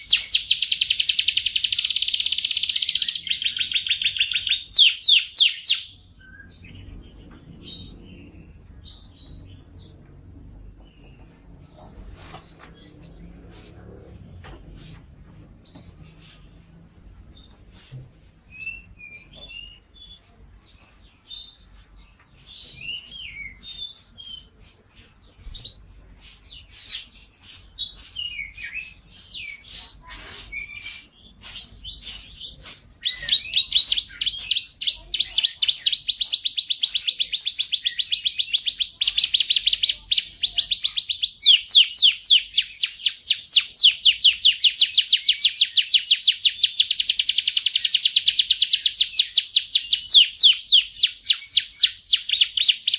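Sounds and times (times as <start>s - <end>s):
canary singing: 0.0s - 14.8s, 15.6s - 17.5s, 18.5s - 52.9s.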